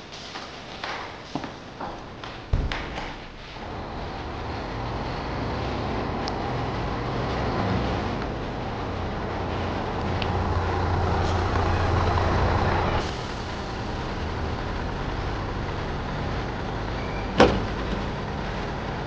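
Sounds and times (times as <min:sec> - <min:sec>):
road vehicle rumble and hiss: 0:00.0 - 0:19.0.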